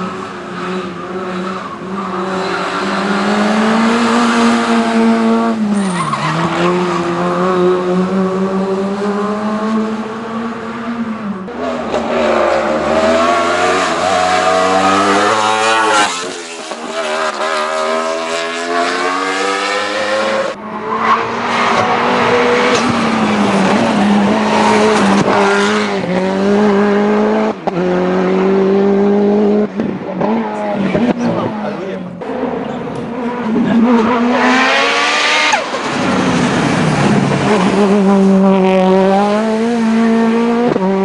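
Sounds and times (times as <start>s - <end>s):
racing car engine revving: 0.0s - 41.0s.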